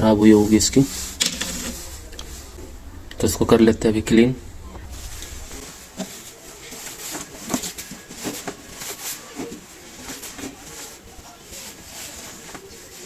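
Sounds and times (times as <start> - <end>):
scraping and rubbing metal: 0.0 - 13.0.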